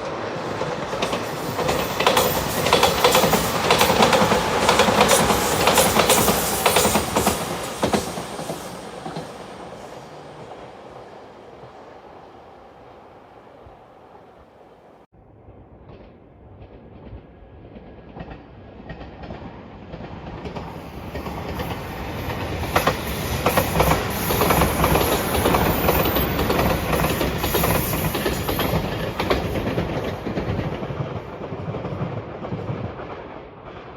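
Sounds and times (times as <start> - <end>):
train passing at speed: 0.0 - 33.9.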